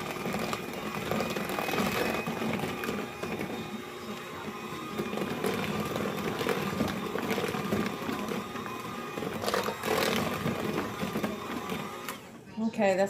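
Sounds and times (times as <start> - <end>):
electric hand mixer running: 0.0 - 12.4.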